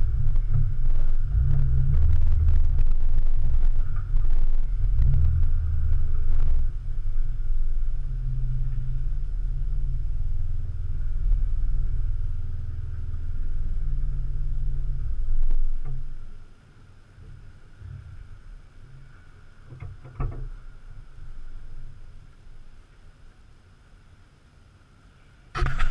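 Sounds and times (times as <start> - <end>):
car engine low rumble: 0.0 - 25.9.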